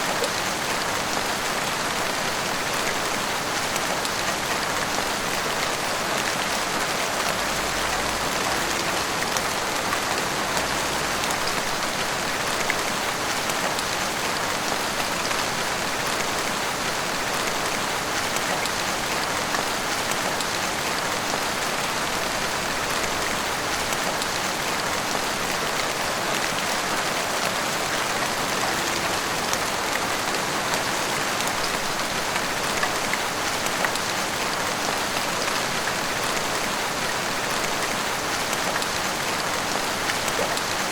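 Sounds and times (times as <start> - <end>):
heavy rain on rooftops: 0.0 - 40.9.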